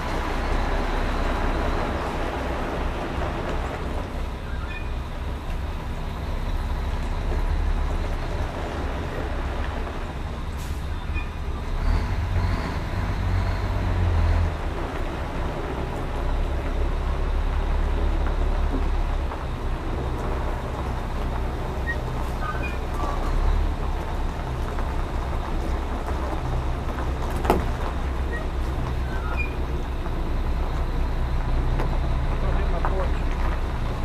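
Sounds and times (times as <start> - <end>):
diesel truck engine rumbling: 0.0 - 34.0.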